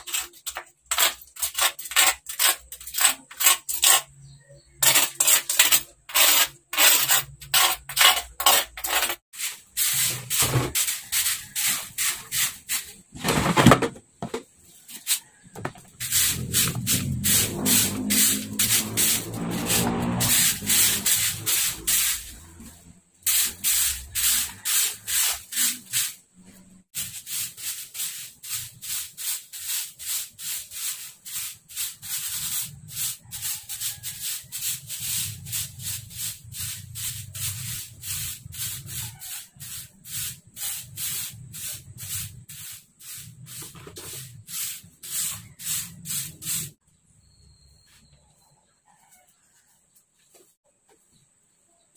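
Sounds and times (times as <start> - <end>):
bristles scrubbing concrete: 0.0 - 13.5, 14.7 - 46.8.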